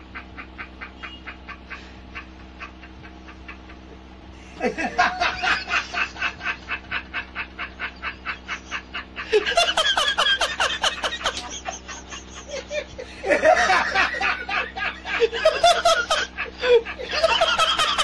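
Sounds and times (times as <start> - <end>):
person laughing in bursts: 0.0 - 18.0.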